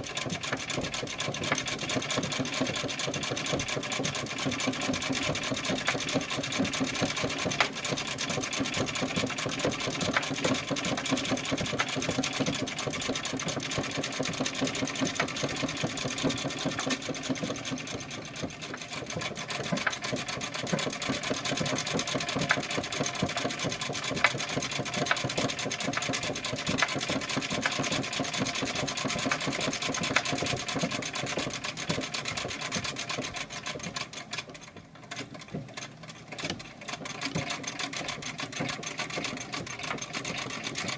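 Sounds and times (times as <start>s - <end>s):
sewing machine rattling: 0.0s - 40.9s.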